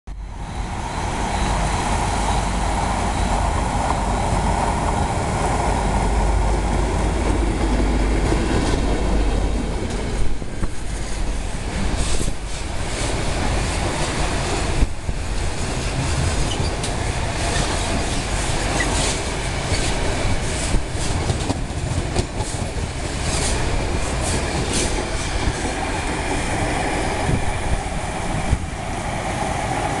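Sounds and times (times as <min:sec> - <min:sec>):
locomotive engine rumbling: 0:00.2 - 0:30.0.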